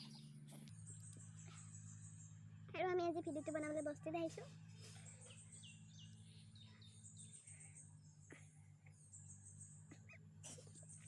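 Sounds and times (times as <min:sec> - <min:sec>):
faint bird chirps: 0:00.0 - 0:11.0
steady low hum: 0:00.0 - 0:11.0.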